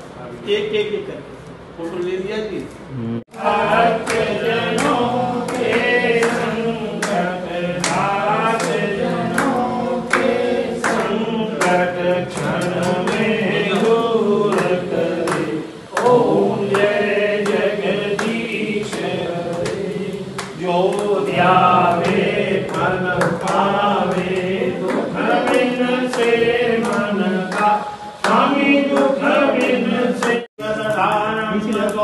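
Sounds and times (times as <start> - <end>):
sharp hand claps: 3.3 - 32.0
voices singing a devotional chant: 3.3 - 32.0.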